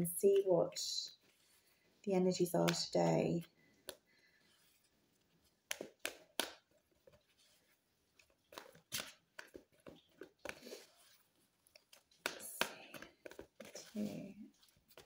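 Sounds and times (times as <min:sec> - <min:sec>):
cards being shuffled: 0:02.6 - 0:15.0.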